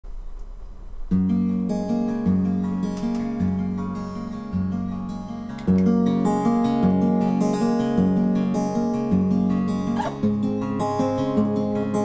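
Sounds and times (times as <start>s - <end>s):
acoustic guitar fingerpicked: 0.2s - 12.0s.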